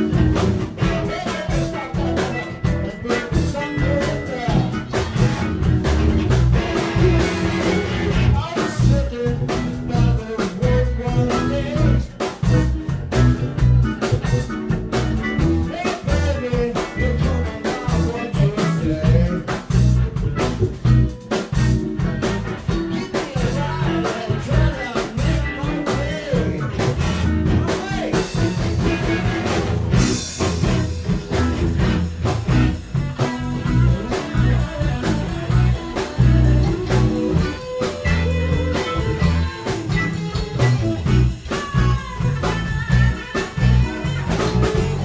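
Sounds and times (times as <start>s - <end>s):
live rock band playing: 0.0s - 45.0s.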